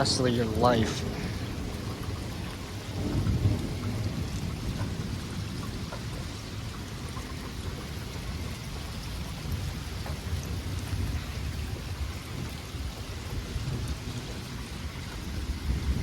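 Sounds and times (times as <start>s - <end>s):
heavy rain falling: 0.0s - 16.0s
thunder rumbling: 0.0s - 16.0s.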